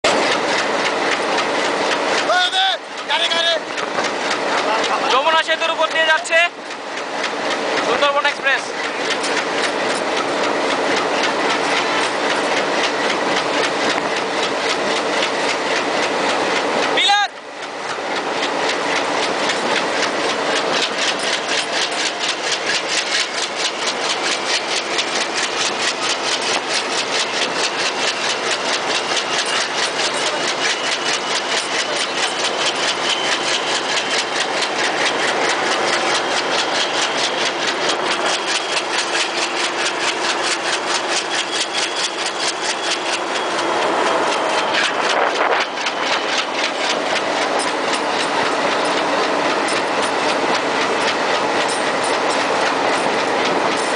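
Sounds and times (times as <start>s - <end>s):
train wheels clattering: 0.0s - 53.9s.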